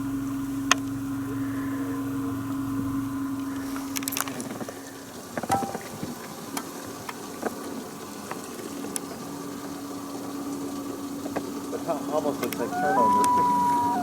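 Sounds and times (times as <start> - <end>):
boat motor low hum: 0.0 - 14.0
soft watery crackle: 0.0 - 14.0.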